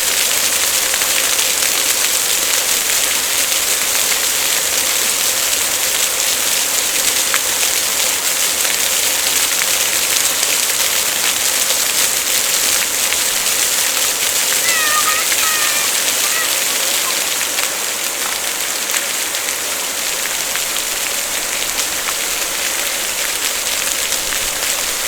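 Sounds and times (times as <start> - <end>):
water fountain splashing: 0.0 - 25.0.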